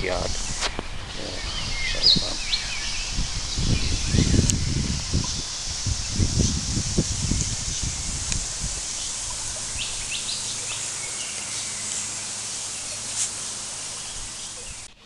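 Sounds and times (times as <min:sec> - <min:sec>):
high bird calls: 0:00.0 - 0:15.0
outdoor background noise: 0:00.0 - 0:15.0.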